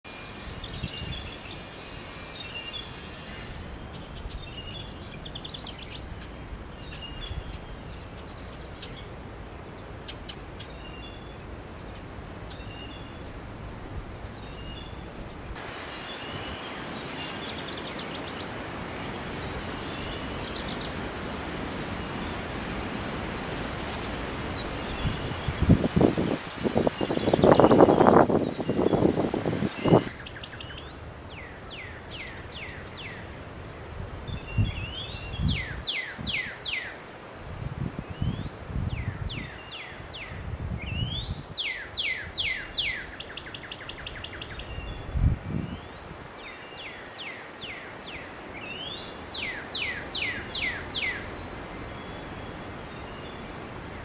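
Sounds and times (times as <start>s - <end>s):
songbirds singing: 0.0s - 37.1s, 37.9s - 54.0s.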